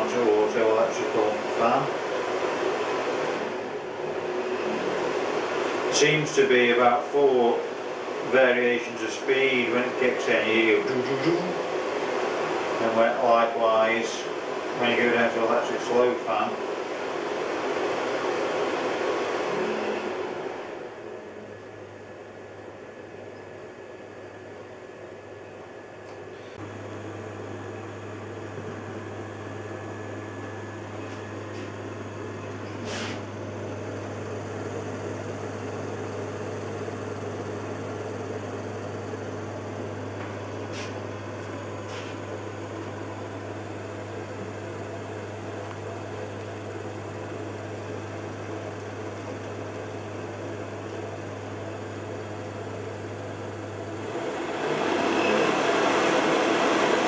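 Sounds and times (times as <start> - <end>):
heater fan air rush: 0.0 - 57.0.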